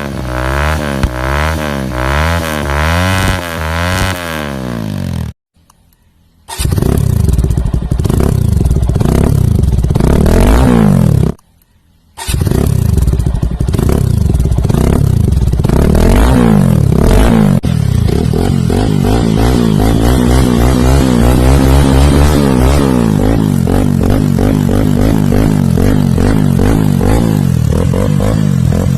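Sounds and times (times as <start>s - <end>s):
motorcycle engine revving: 0.0s - 5.4s, 6.5s - 11.4s, 12.2s - 28.9s.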